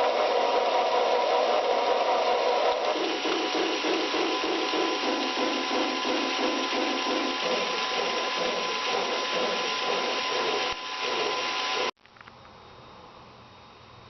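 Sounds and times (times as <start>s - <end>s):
mechanical clatter with whine: 0.0s - 12.3s.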